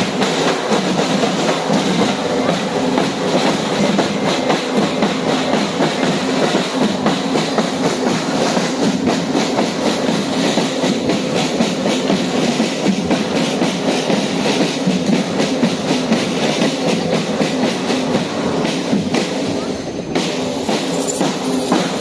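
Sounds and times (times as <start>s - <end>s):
train rumbling: 0.0s - 22.0s
train wheels clicking over rails: 0.0s - 22.0s.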